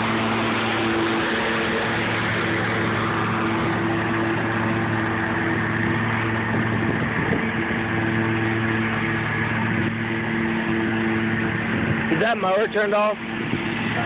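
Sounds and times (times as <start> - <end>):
riding lawn mower engine: 0.0 - 14.0.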